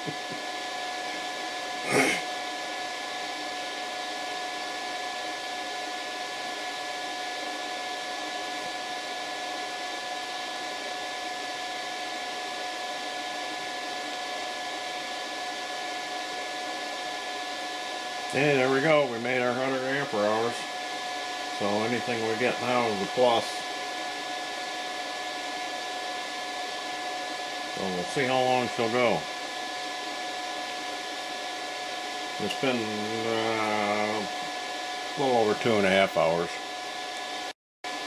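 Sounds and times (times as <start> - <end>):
fan whir with faint whine: 0.0 - 38.0.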